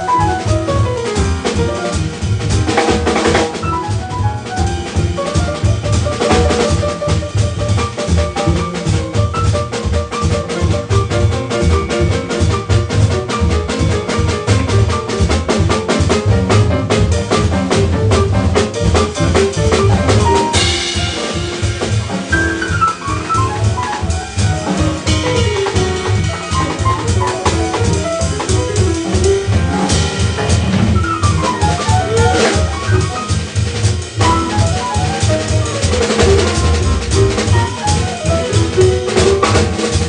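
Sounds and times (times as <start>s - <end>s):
busy drumming: 0.0s - 40.0s
piano runs: 0.0s - 40.0s
upright double bass: 0.0s - 40.0s.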